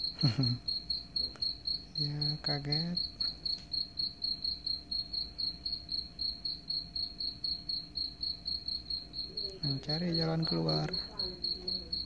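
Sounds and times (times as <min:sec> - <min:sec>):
recorded cricket chirping: 0:00.0 - 0:12.0.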